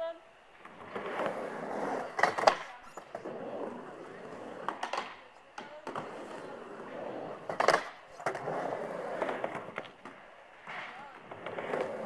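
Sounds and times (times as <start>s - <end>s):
skateboard wheels rolling: 0.5s - 12.0s
skateboard clacking: 0.6s - 12.0s.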